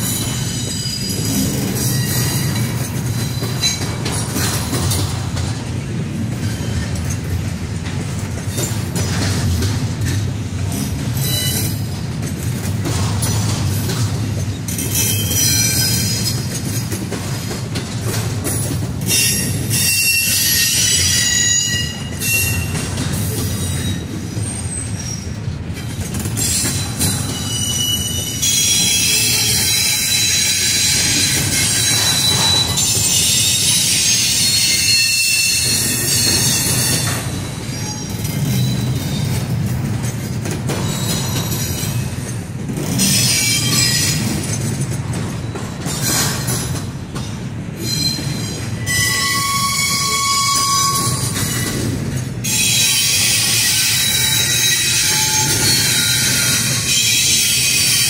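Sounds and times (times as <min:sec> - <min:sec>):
steel wheels squealing: 0:00.0 - 0:05.3, 0:10.7 - 0:12.0, 0:13.1 - 0:17.4, 0:18.5 - 0:58.0
freight train rumbling past: 0:00.0 - 0:58.0.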